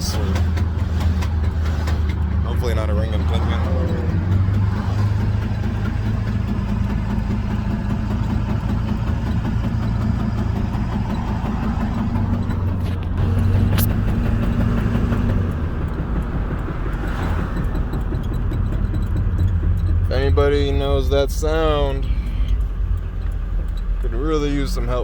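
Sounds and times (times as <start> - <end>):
drivetrain and road hum: 0.0 - 25.0
truck clunking noise: 0.0 - 25.0.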